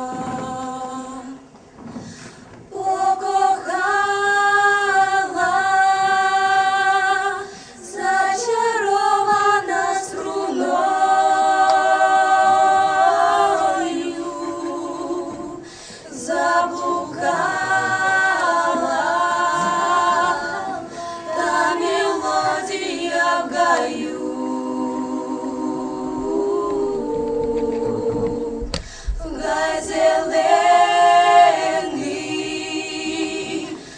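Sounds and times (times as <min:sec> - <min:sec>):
group singing a cappella: 0:00.0 - 0:01.5, 0:02.1 - 0:33.9.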